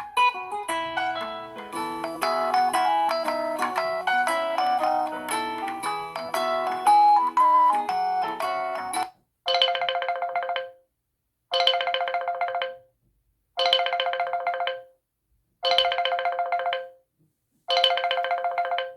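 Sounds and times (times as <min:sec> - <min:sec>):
trilling phone ringtone: 0:00.0 - 0:10.8, 0:11.5 - 0:12.9, 0:13.6 - 0:14.9, 0:15.6 - 0:17.0, 0:17.7 - 0:18.9.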